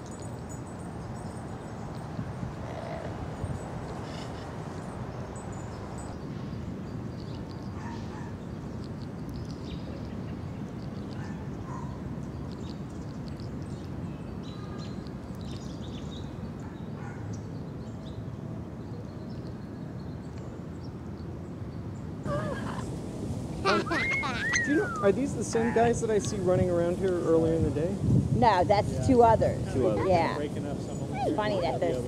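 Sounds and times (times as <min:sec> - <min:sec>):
small birds chirping: 0:00.0 - 0:22.9, 0:28.2 - 0:32.0.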